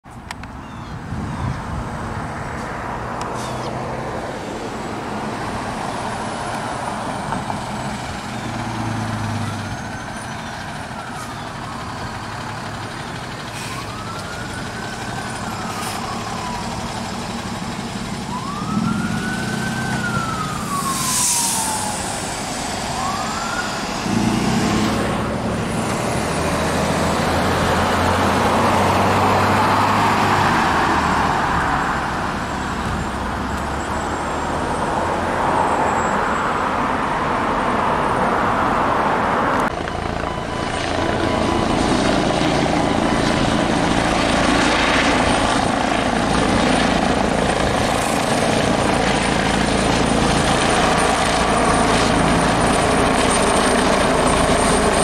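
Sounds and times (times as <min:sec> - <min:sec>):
engine and road noise: 0:00.0 - 0:55.0
siren wailing: 0:05.3 - 0:37.3, 0:39.7 - 0:55.0.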